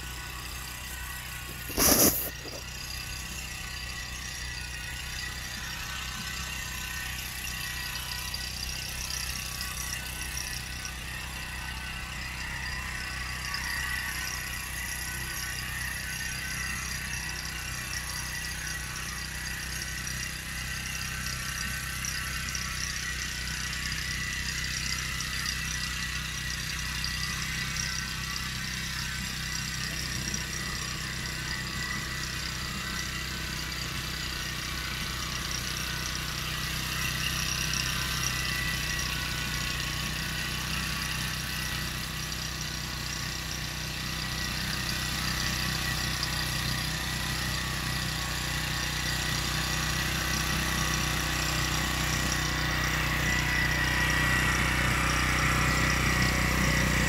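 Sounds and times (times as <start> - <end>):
mechanical whir: 0.0 - 57.0
small engine running steadily: 0.0 - 57.0.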